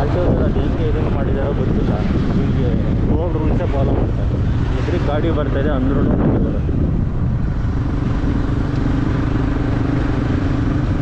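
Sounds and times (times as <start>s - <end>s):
motorcycle engine drone: 0.0s - 11.0s
road noise: 0.0s - 11.0s.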